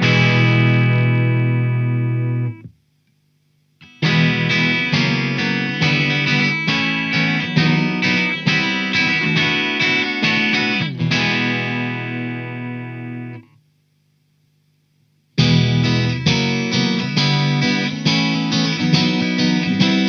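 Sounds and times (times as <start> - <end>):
electric guitar strumming chords: 0.0 - 2.8, 3.8 - 13.5, 15.4 - 20.0
faint low amp hum: 0.0 - 20.0.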